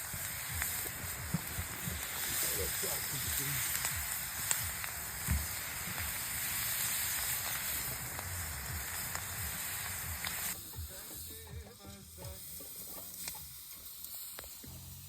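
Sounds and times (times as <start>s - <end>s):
fire pops and crackles: 0.0s - 15.0s
food sizzling in a pan: 0.0s - 15.0s.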